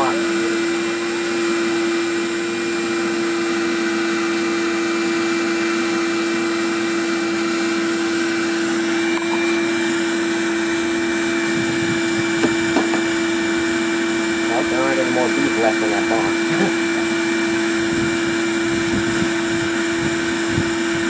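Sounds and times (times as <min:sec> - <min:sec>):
vacuum motor hum: 0:00.0 - 0:21.0.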